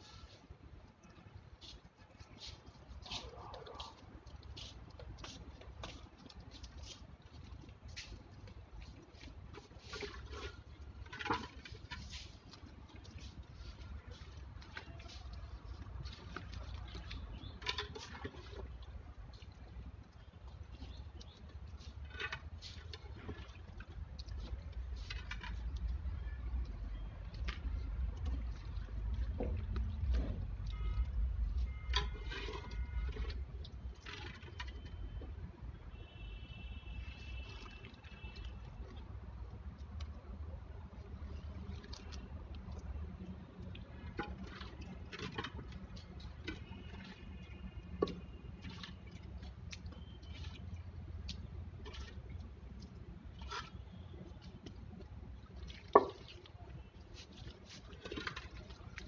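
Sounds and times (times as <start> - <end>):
wet mud slapping and squelching: 0.8 - 35.4, 37.0 - 59.0.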